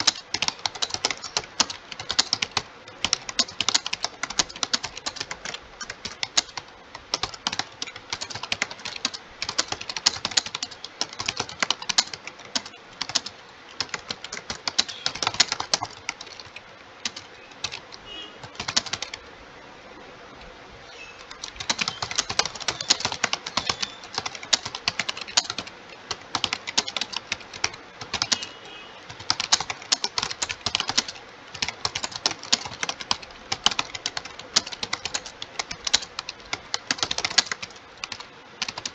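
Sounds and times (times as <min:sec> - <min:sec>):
fast keyboard typing: 0:00.0 - 0:19.2, 0:21.2 - 0:38.9.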